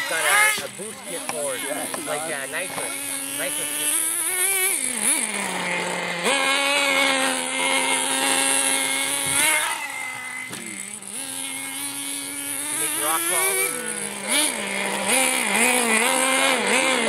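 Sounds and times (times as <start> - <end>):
small nitro engine buzzing: 0.0 - 17.0.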